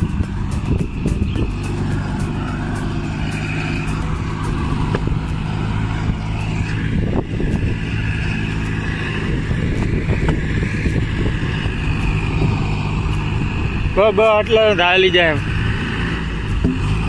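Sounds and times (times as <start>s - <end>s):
diesel engine running: 0.0s - 17.0s
high whine: 0.0s - 17.0s.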